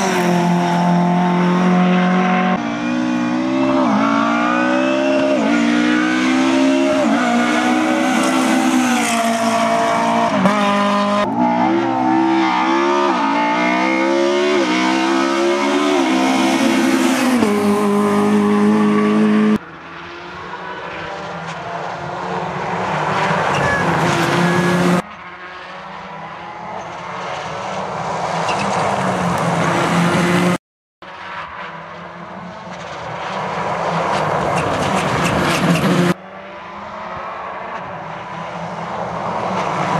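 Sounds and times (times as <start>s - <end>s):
rally car engines revving: 0.0s - 30.6s, 31.2s - 39.9s.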